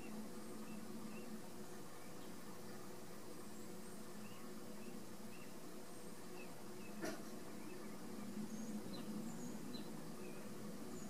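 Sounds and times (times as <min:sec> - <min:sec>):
low steady hum: 0:00.0 - 0:11.0
pouring rain hiss: 0:00.0 - 0:11.0.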